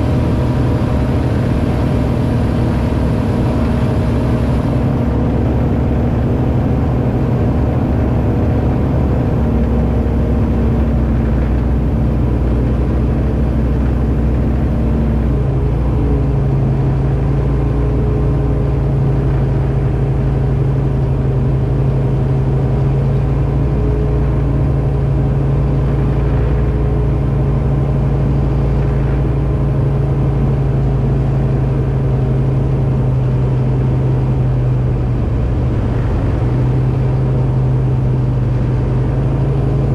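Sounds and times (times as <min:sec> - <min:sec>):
aircraft engine and propeller: 0:00.0 - 0:39.9.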